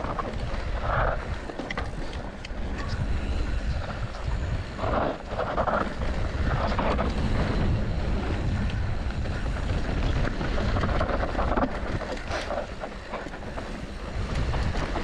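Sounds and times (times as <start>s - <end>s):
bike rattling over ground: 0.0s - 15.0s
bike tyre noise: 0.0s - 15.0s
wind rumbling on microphone: 0.0s - 15.0s.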